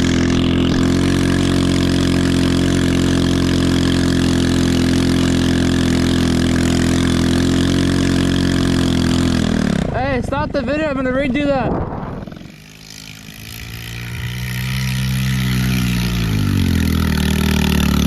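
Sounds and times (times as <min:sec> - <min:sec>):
small engine running steadily: 0:00.0 - 0:18.0.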